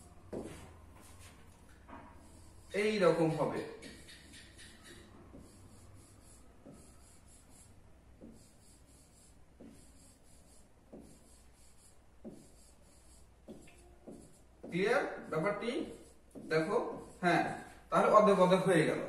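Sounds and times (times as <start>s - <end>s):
drawing strokes on glass screen: 2.1s - 19.0s.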